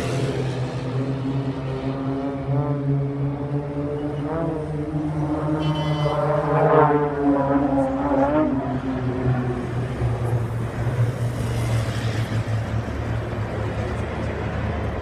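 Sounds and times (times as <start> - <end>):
planes droning past: 0.0 - 15.0
road traffic: 0.0 - 15.0.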